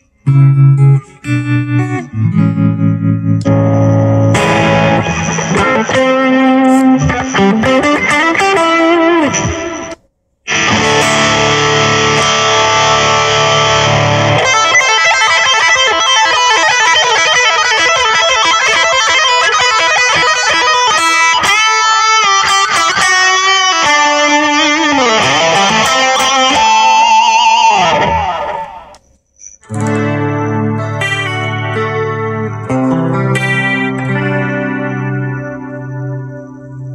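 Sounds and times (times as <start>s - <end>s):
distorted electric guitar: 0.0s - 36.9s.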